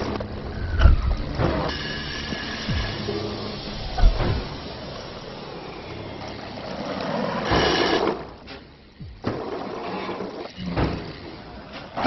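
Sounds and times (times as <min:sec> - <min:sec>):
clockwork gears whirring: 0:00.0 - 0:12.0.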